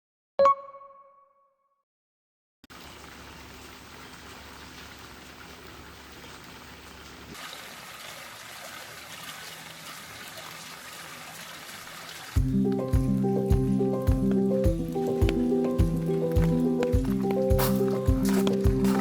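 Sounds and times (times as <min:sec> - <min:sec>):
running water trickling: 0:02.7 - 0:19.0.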